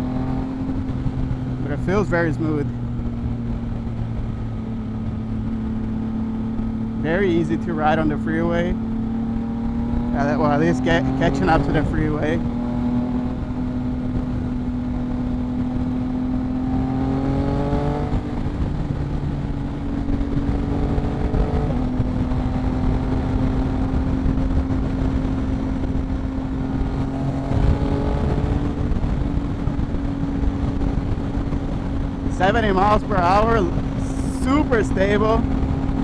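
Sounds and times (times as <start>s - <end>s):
motorcycle engine at speed: 0.0s - 36.0s
wind and road noise: 0.0s - 36.0s.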